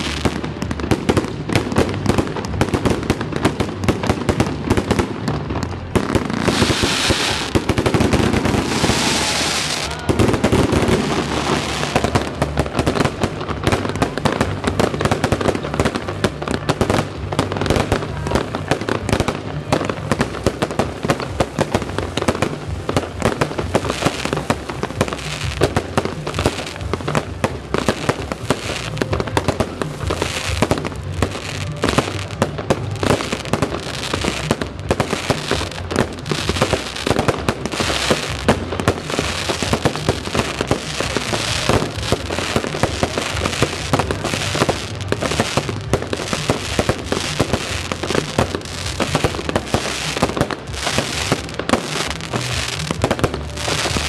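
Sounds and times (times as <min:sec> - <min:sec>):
crackling sparks: 0:00.0 - 0:54.0
fireworks bangs: 0:00.0 - 0:54.0.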